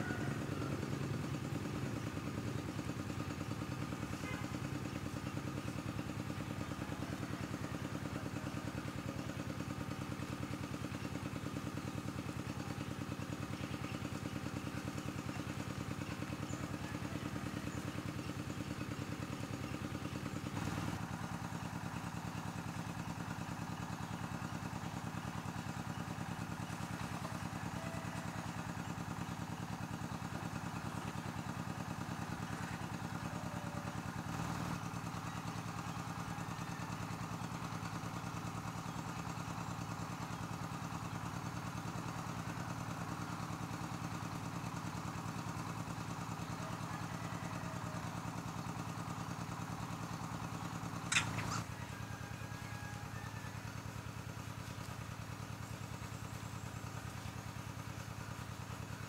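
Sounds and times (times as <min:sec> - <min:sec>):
small engine idling: 0:00.0 - 0:59.0.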